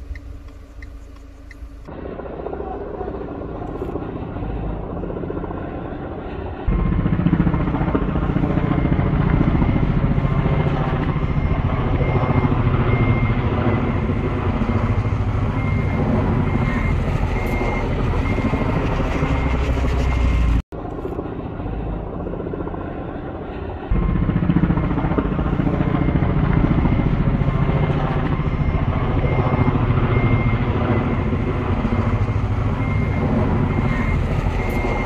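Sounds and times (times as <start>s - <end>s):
helicopter rotor chopping: 0.0s - 35.0s.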